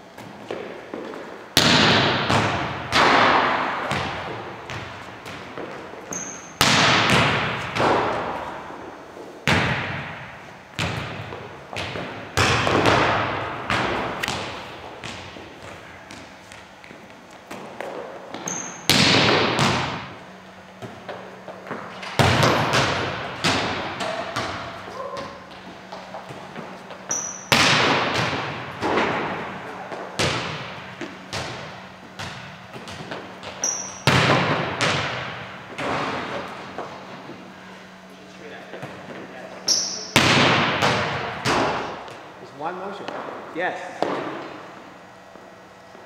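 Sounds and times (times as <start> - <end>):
volleyball struck hard in gym: 0.2 - 37.6, 39.7 - 42.3, 43.0 - 44.8.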